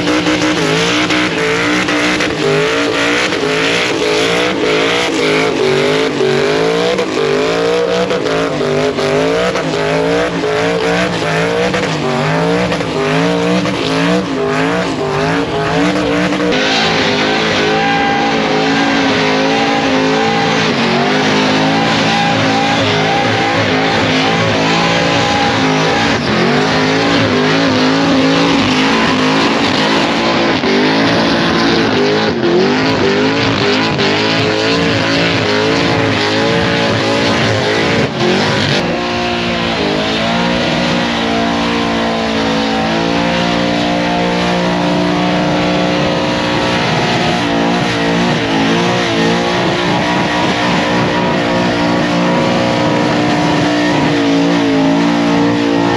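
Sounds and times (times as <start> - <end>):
car engine revving hard: 0.0 - 55.9
tyres squealing: 0.1 - 39.0, 39.8 - 55.9.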